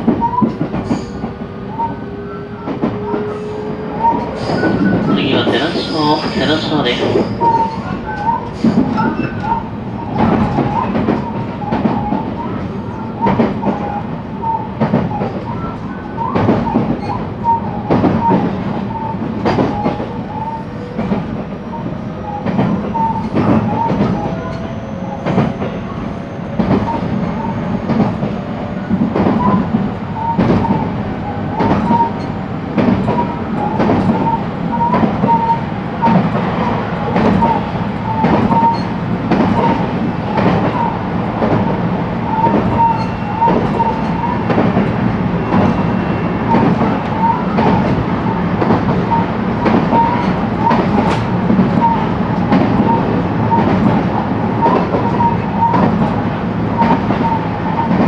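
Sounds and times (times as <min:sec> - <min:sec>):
train wheels clicking over rail joints: 0:00.0 - 0:21.4, 0:22.3 - 0:25.8, 0:26.5 - 0:58.0.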